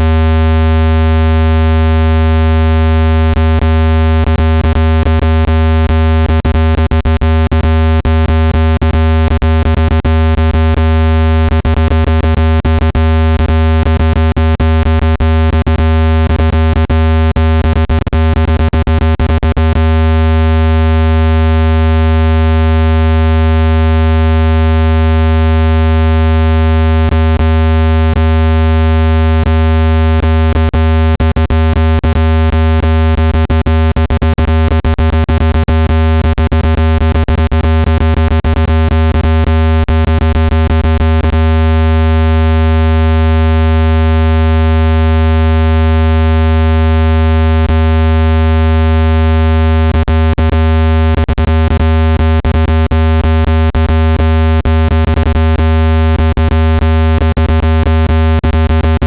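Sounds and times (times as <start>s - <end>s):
deep steady speaker tone: 0.0s - 56.5s.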